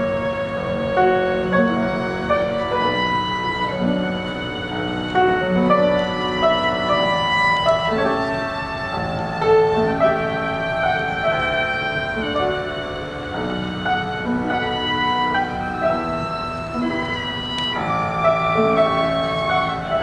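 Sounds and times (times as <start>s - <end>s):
violin ensemble playing: 0.0s - 20.0s.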